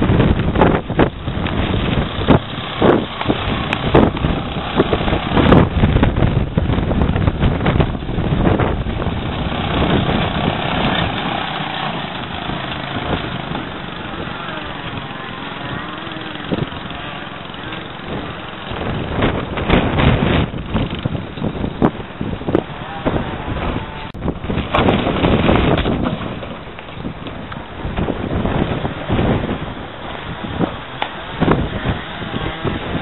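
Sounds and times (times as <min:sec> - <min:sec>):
small engine running: 0:00.0 - 0:33.0
wind buffeting microphone: 0:00.0 - 0:33.0.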